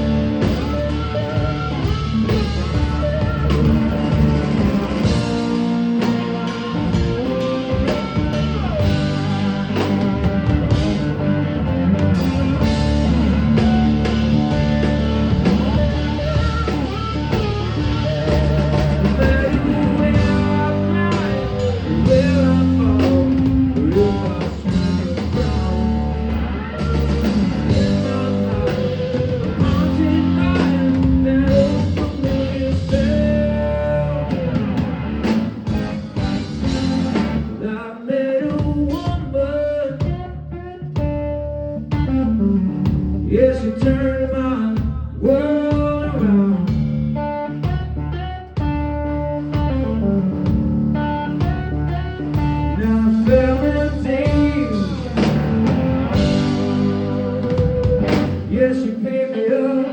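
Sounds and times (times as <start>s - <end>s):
electric guitar lead: 0.0s - 37.9s, 38.5s - 59.9s
bass and drums: 0.0s - 59.1s.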